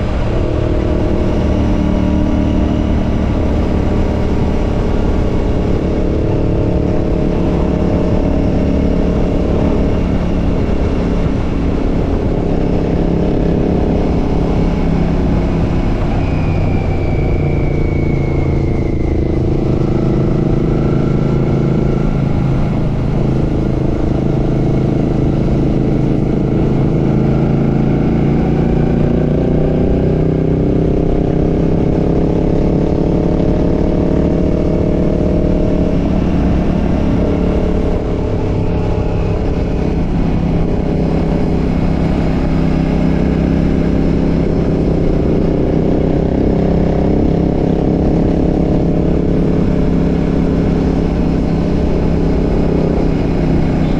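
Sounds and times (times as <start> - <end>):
motorcycle engine and exhaust: 0.0 - 53.9
wind and road noise: 0.0 - 53.9.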